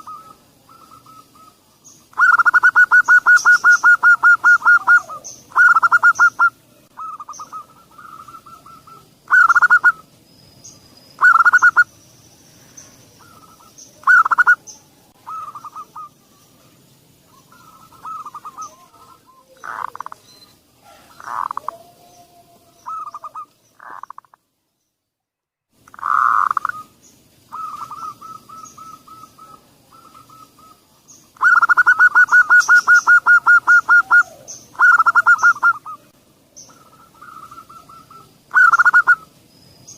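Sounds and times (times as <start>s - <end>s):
doves cooing: 0.0s - 10.2s, 11.2s - 12.0s, 12.9s - 16.5s, 17.2s - 24.4s, 25.9s - 39.4s.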